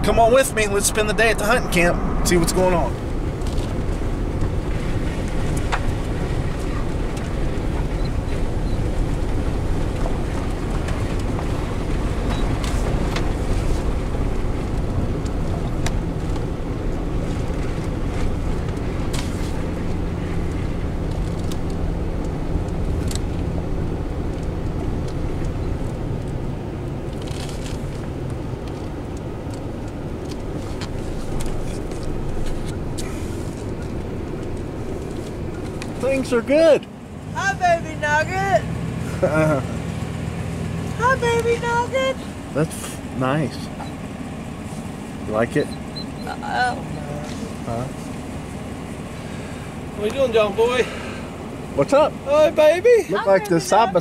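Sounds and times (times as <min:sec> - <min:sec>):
road noise on gravel: 0:00.0 - 0:54.0
vehicle engine hum: 0:00.0 - 0:54.0.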